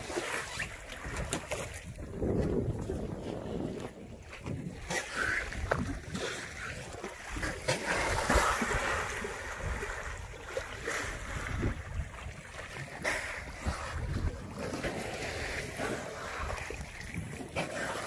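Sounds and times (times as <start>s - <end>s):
waves slapping against hull: 0.0s - 18.0s
wind buffeting microphone: 1.0s - 17.8s.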